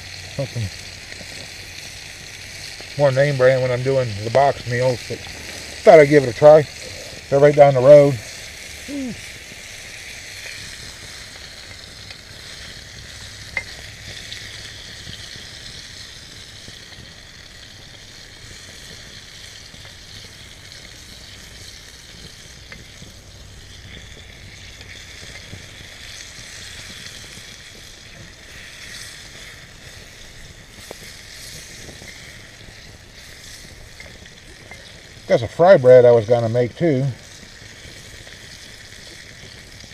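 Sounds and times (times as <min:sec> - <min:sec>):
sausage sizzling in a frying pan: 0:00.0 - 0:39.9.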